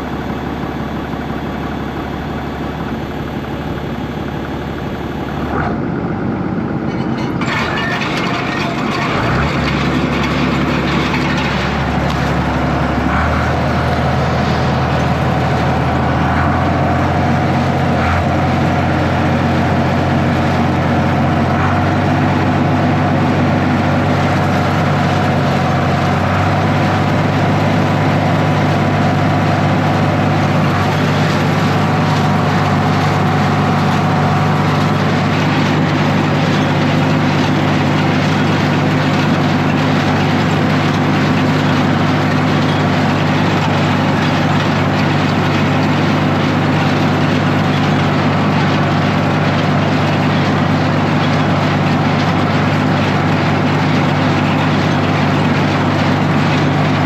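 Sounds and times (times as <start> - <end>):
baler machinery running: 0.0 - 57.0
tractor engine under load: 0.0 - 57.0.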